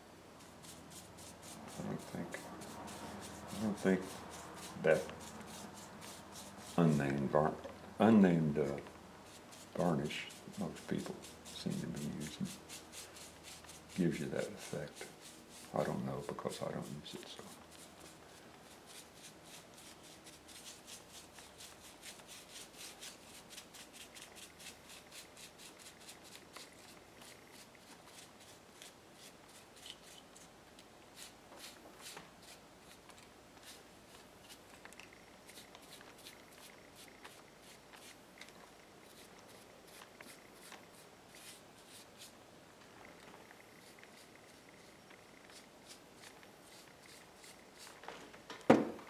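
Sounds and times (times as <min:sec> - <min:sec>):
paintbrush brushing on wood: 0:00.4 - 0:42.4, 0:43.1 - 0:48.0.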